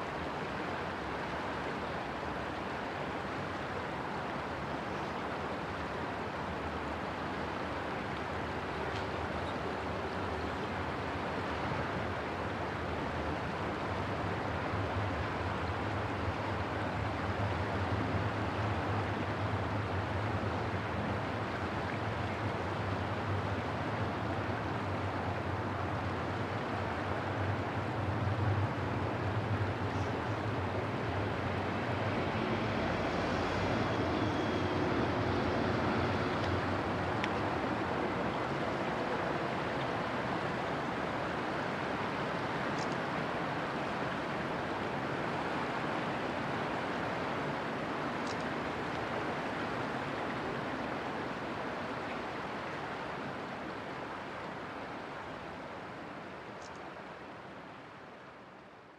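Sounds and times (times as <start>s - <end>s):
rushing river water: 0.0s - 58.9s.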